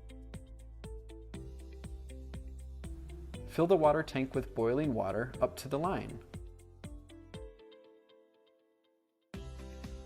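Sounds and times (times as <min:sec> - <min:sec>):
soft electronic music: 0:00.0 - 0:10.0.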